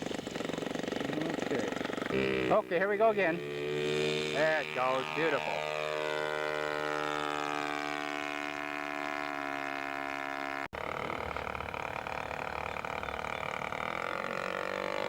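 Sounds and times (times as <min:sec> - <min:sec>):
model airplane engine drone: 0:00.0 - 0:15.0.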